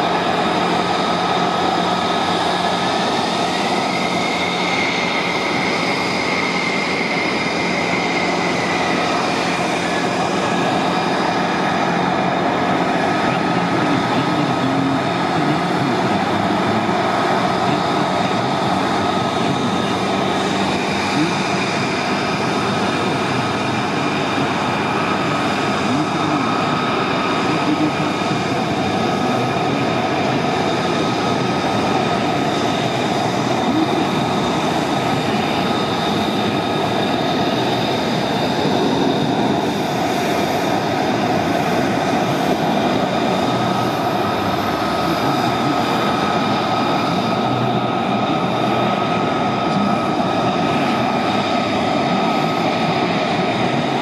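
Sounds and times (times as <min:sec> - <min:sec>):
aircraft engines running: 0:00.0 - 0:54.0.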